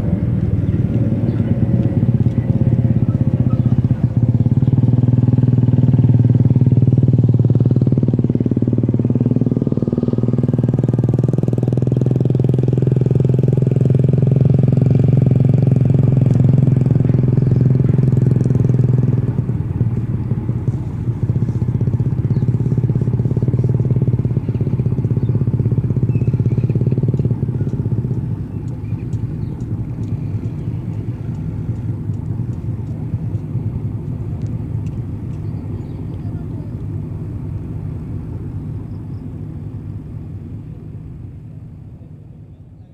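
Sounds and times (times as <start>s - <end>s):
ferry engines droning: 0.0s - 42.9s.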